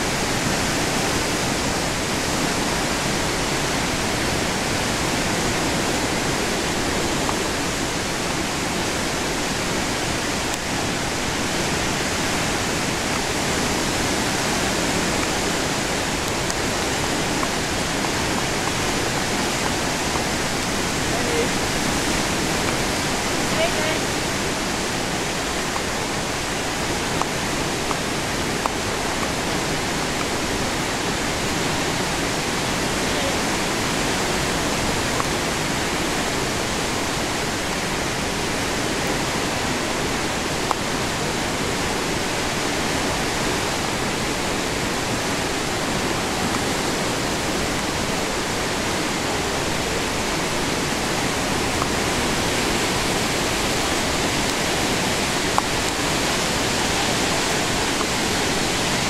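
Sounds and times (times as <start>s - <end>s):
whitewater rushing through gorge: 0.0s - 59.0s.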